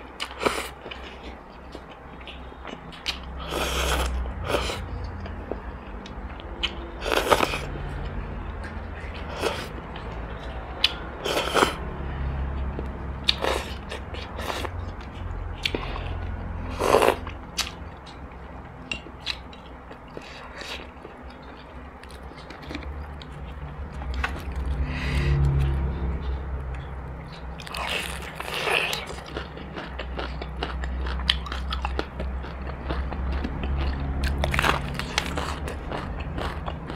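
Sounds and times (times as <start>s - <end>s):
steady low hum: 0.0s - 36.9s
chewing and slurping: 0.2s - 11.8s, 12.6s - 36.9s.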